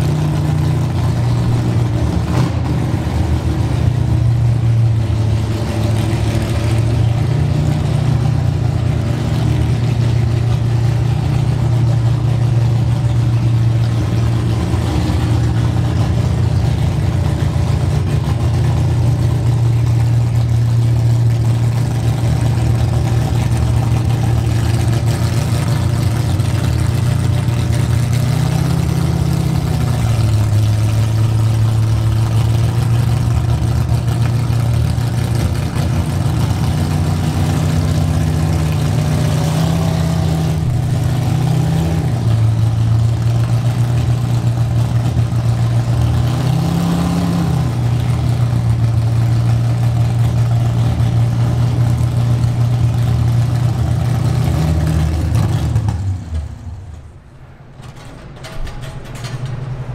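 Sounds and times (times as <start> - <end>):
drag car engine revving: 0.0 - 59.9.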